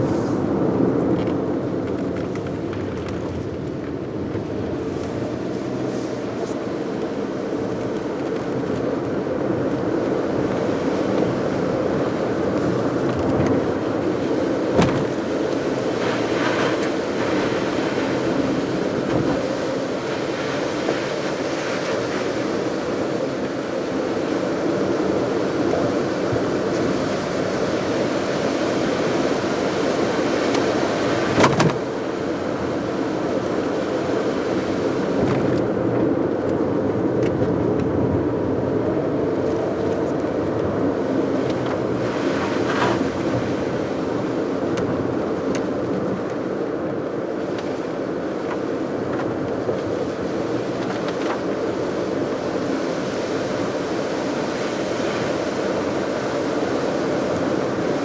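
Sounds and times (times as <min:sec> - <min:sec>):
car road and engine hum: 0:00.0 - 0:58.0.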